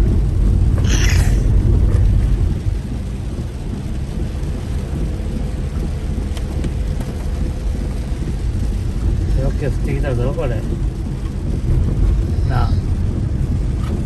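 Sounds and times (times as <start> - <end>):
heavy rain drumming on a car: 0.0 - 0.9, 1.5 - 14.0.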